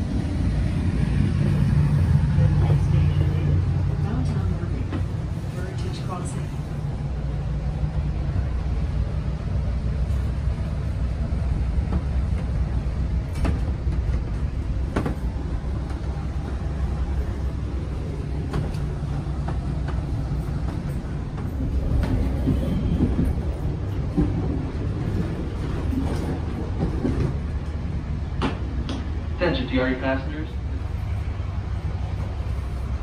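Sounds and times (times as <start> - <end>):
train coach rumbling on rails: 0.0 - 33.0.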